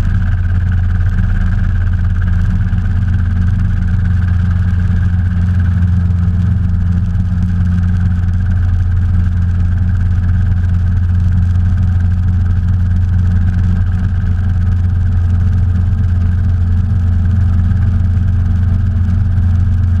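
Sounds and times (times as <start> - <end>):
helicopter flying: 0.0 - 20.0.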